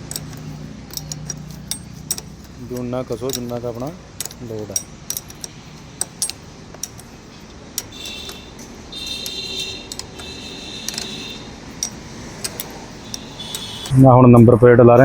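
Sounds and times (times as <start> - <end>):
metal tools clicking and clinking: 0.0 - 13.9.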